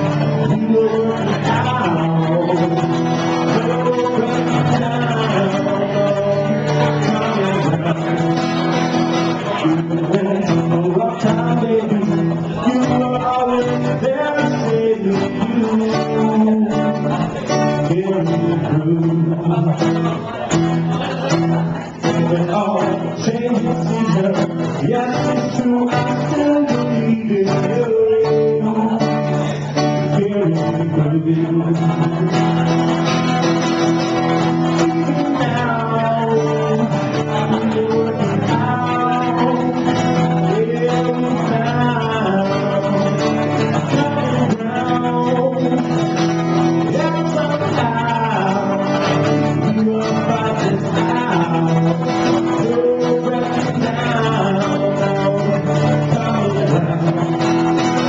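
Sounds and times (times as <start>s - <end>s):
acoustic guitar: 0.0s - 58.0s
man singing: 0.0s - 58.0s.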